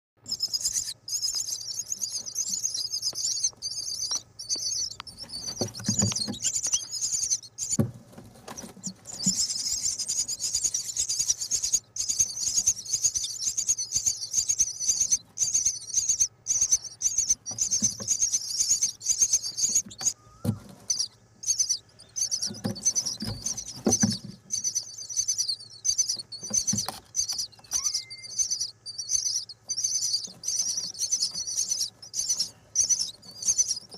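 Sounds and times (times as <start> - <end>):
nestling birds chirping: 0.2 - 33.9.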